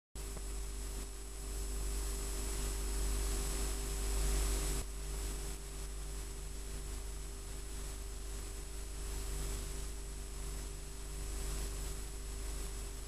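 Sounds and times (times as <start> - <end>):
electrical hum: 0.2 - 13.0
videotape hiss: 0.2 - 13.0.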